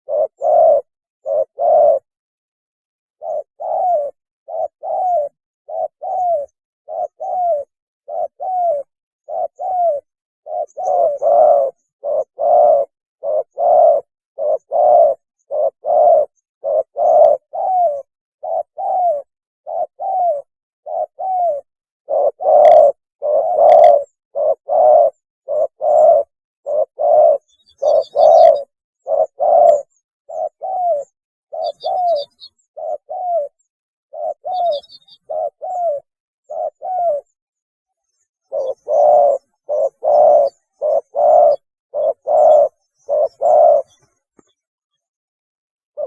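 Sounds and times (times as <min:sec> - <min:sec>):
dove cooing: 0:00.0 - 0:02.2, 0:03.2 - 0:37.4, 0:38.1 - 0:44.5
small bird chirping: 0:03.2 - 0:19.1, 0:20.9 - 0:45.2.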